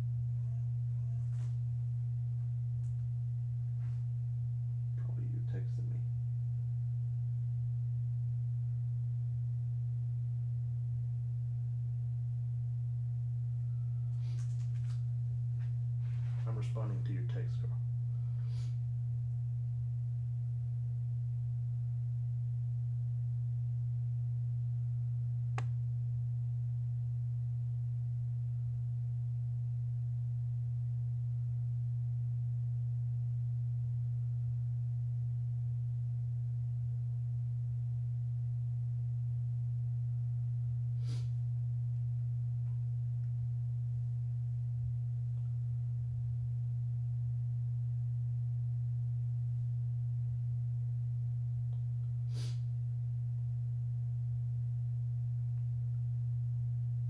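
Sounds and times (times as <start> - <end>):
steady low-pitched hum: 0.0 - 57.0.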